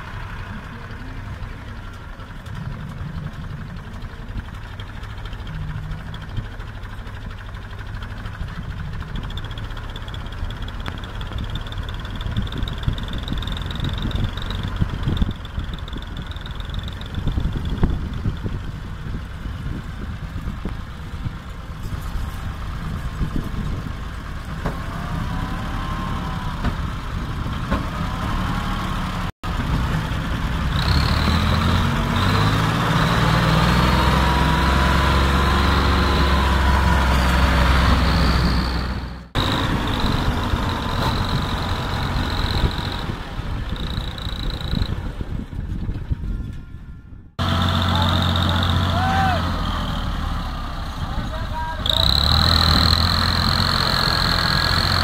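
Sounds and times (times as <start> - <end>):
tractor engine working hard: 0.0 - 55.0.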